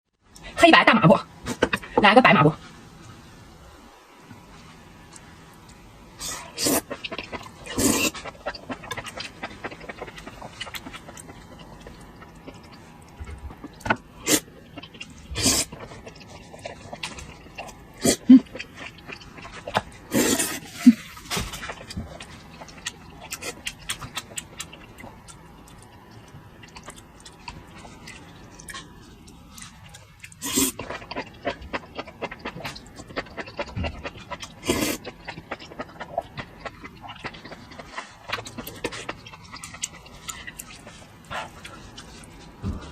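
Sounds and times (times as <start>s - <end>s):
wet chewing and smacking: 4.6s - 42.9s.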